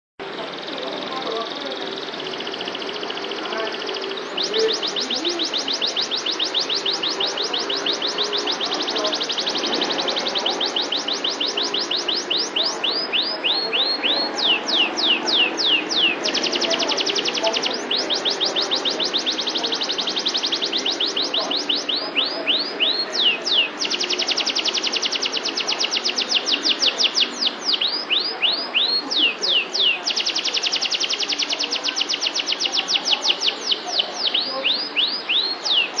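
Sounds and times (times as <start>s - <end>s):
canary singing trills: 0.2s - 36.0s.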